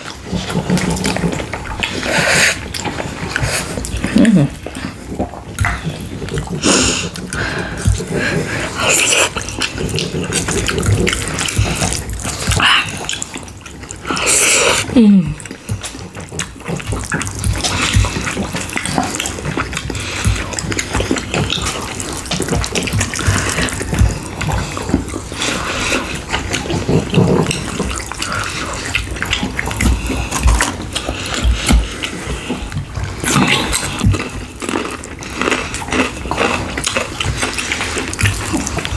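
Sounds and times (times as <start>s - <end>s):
wet chewing and mouth sounds: 0.0s - 38.9s.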